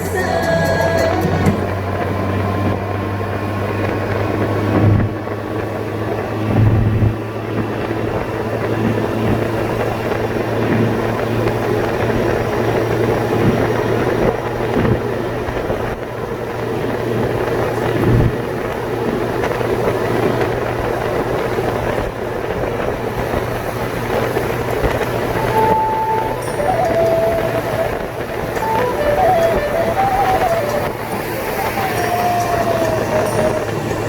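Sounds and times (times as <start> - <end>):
car engine and tyres droning: 0.0 - 34.0.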